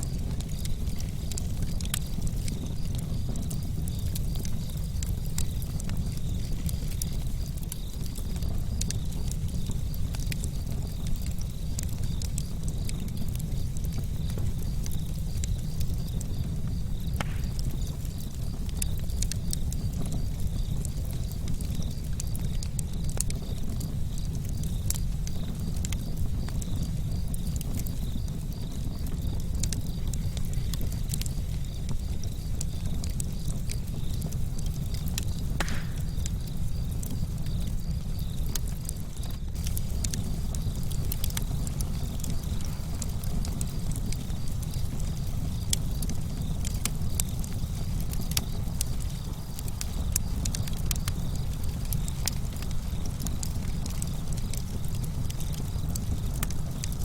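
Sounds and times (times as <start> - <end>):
burning wood crackling and popping: 0.0 - 57.0
campfire flames rushing: 0.0 - 57.0.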